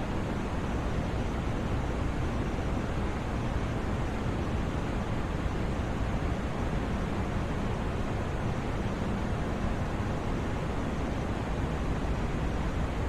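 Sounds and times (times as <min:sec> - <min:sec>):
steady white noise: 0:00.0 - 0:13.0.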